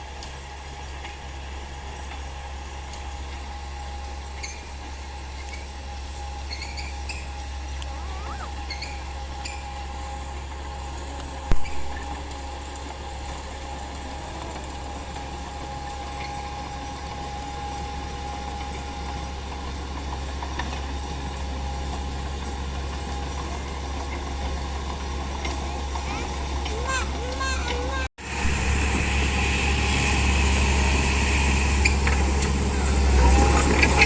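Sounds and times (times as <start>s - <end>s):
bulldozer diesel engine rumbling: 0.0s - 34.0s.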